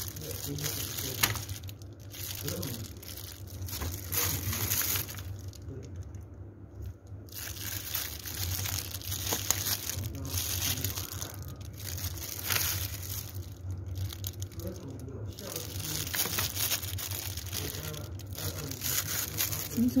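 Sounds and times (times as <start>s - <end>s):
plastic bag crinkling: 0.0s - 20.0s
steady low hum: 0.0s - 20.0s.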